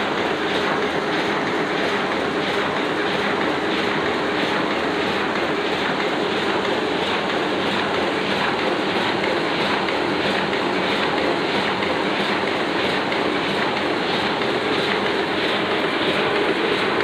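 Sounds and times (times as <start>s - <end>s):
printing press clattering: 0.0s - 17.0s.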